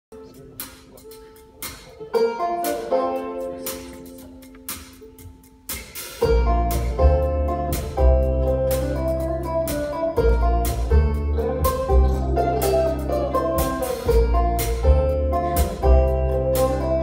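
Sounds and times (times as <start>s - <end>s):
banjo picking: 0.1s - 17.0s
percussion steady beat: 0.1s - 17.0s
fiddle: 0.2s - 5.3s, 6.0s - 17.0s
upright bass: 0.2s - 17.0s.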